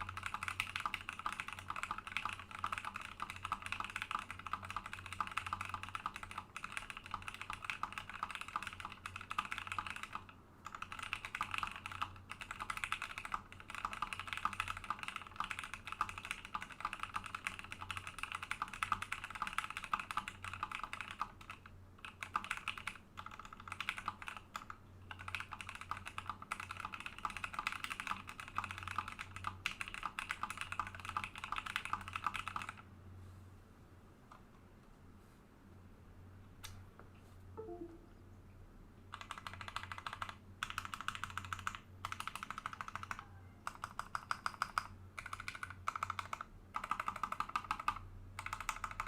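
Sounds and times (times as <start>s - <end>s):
mechanical keyboard typing: 0.0s - 32.8s, 39.1s - 49.0s.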